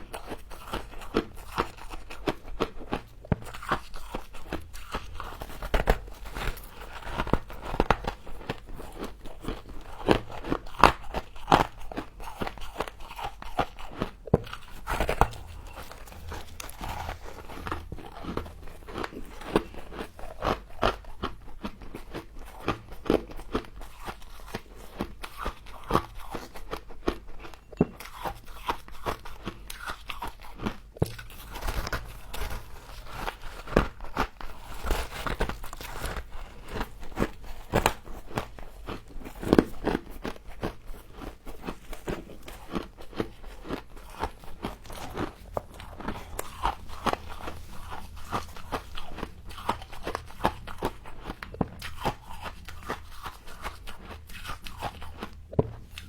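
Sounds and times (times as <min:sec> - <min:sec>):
frost crunching while chewed: 0:00.0 - 0:56.0.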